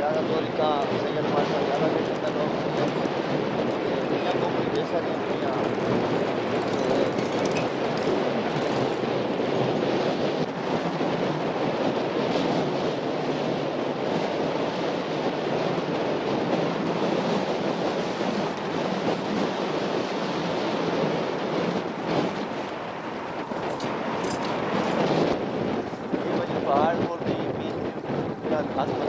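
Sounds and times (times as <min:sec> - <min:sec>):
tyres on road: 0:00.0 - 0:13.8, 0:15.2 - 0:29.0
wind rush on microphone: 0:00.0 - 0:29.0.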